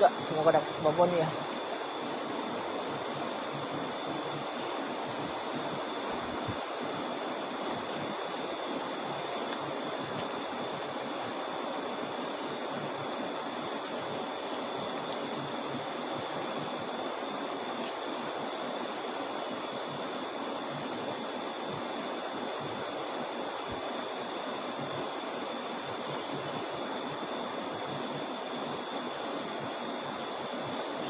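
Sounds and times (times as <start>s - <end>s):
steady high-pitched tones: 0.0s - 31.0s.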